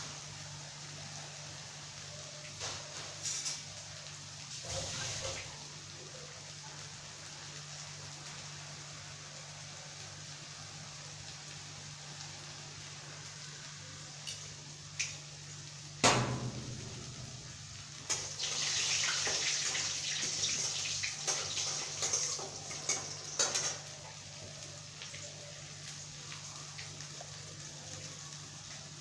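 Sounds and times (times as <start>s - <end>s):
steady high hiss: 0.0s - 29.0s
low steady hum: 5.3s - 29.0s.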